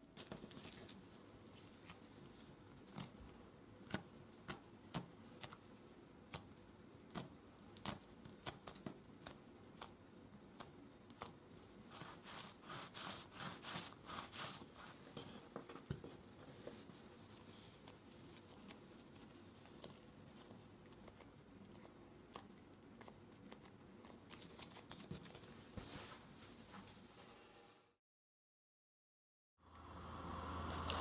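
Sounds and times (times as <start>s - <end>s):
soft rubbing of rolling dough: 0.0s - 27.8s.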